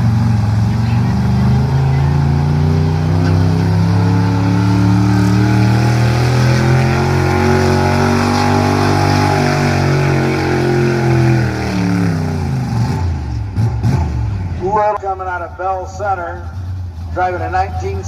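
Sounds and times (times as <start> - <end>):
pickup truck engine running hard: 0.0 - 18.0.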